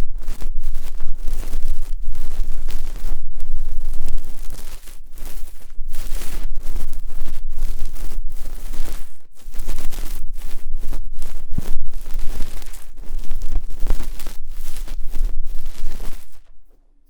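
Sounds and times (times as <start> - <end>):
ear pick scraping microphone: 0.0 - 17.0.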